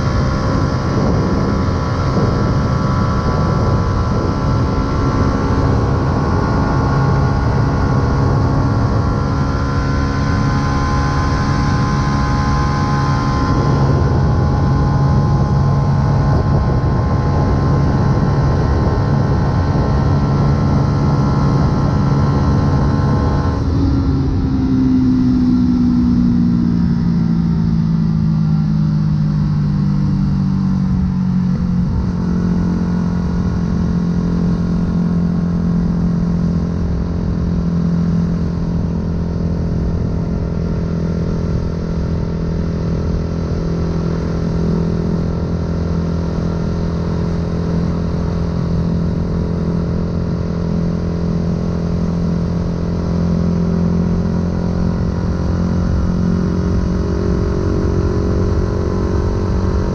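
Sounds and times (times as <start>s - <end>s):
motorcycle engine riding: 0.0s - 59.9s.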